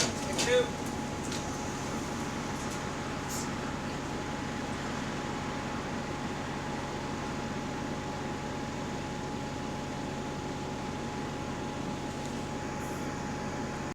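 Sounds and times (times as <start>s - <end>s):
bus engine and road noise: 0.0s - 13.9s.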